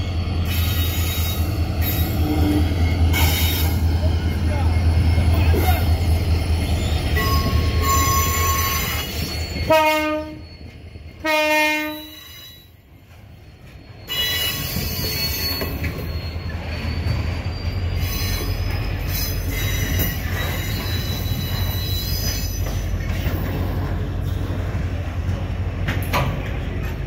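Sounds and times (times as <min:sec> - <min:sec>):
wheel squeal: 0:00.0 - 0:11.2, 0:11.9 - 0:24.0.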